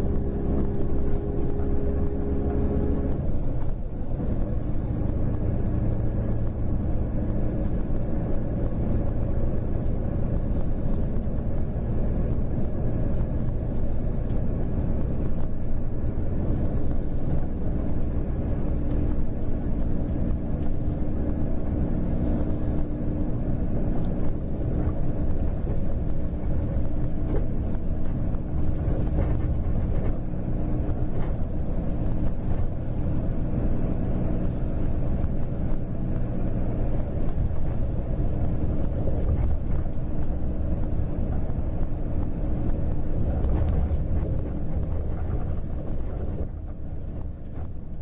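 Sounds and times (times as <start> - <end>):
diesel coach engine running: 0.0 - 48.0
road and wind noise: 0.0 - 48.0.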